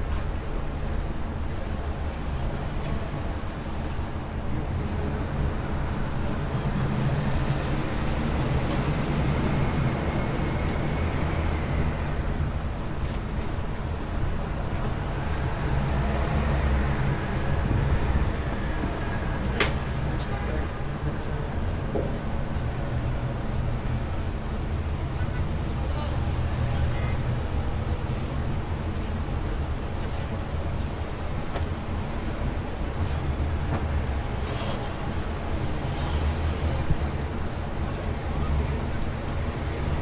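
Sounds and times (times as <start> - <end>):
traffic rumble: 0.0 - 40.0.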